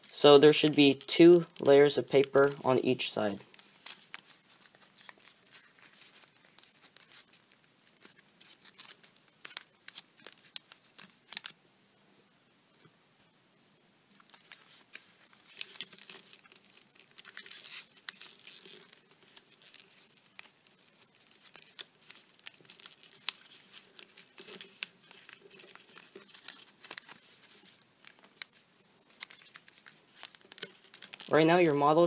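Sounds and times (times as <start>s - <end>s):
paper crinkling: 0.0s - 11.6s, 14.1s - 32.0s.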